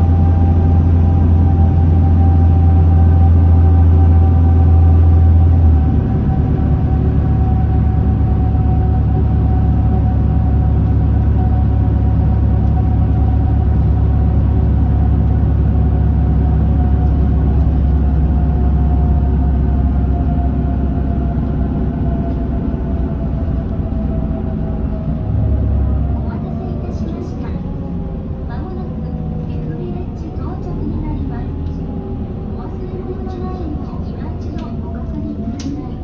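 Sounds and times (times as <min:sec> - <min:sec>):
bus engine rumble: 0:00.0 - 0:36.0
drivetrain whine: 0:00.0 - 0:36.0.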